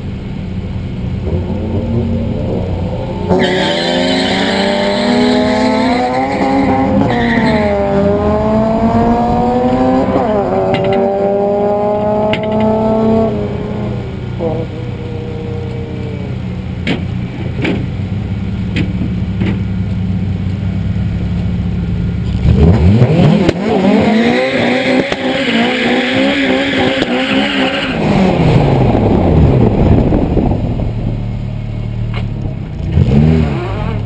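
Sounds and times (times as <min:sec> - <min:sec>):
race car engine idling and revving: 0:00.0 - 0:34.0.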